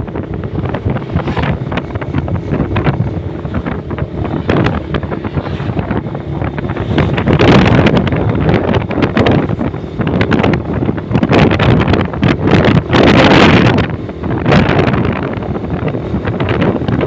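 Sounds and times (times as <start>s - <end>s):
motorcycle engine running: 0.0s - 17.0s
road noise: 0.0s - 17.0s
wind buffeting microphone: 0.0s - 17.0s.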